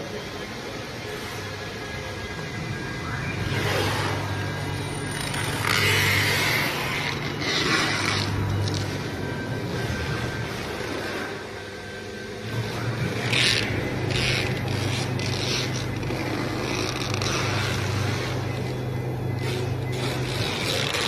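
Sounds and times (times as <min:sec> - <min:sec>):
router spindle hum: 0:00.0 - 0:21.0.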